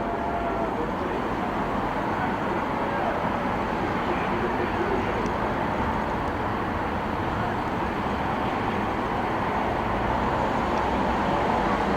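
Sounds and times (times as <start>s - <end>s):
road traffic noise: 0.0s - 11.9s.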